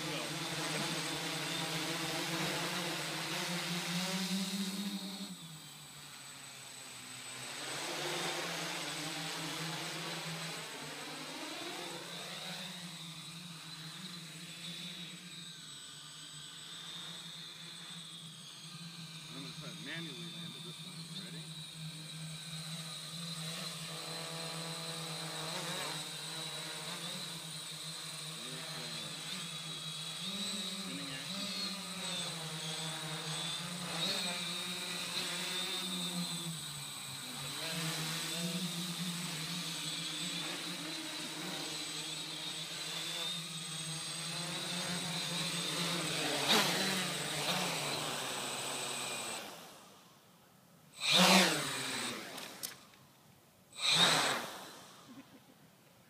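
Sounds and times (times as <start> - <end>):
drone motors whining: 0.0 - 50.2, 51.0 - 53.1, 53.7 - 55.5.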